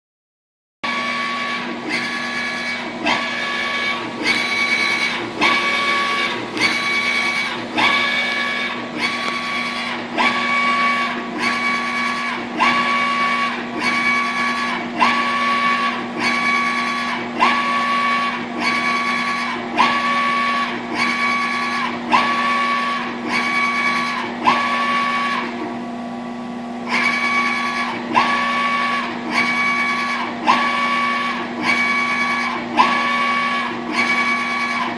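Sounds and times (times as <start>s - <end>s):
printer carriage motor whine: 0.8s - 34.9s
steady printer hum: 0.8s - 34.9s.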